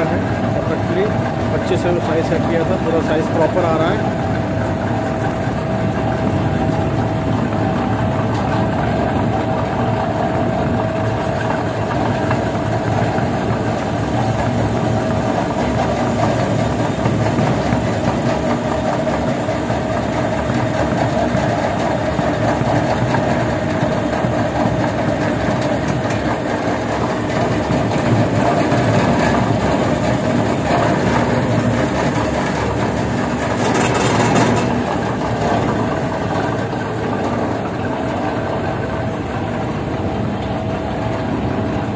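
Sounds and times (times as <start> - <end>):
fabric cutting machine running: 0.0 - 41.9.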